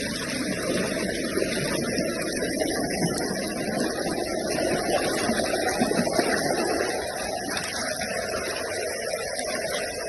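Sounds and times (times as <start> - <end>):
water rushing and churning: 0.0 - 10.0.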